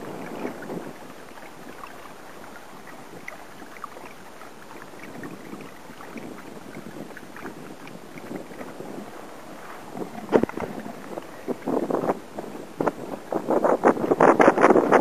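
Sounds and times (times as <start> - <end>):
water rushing: 0.0 - 15.0
water splashing against hull: 0.0 - 15.0.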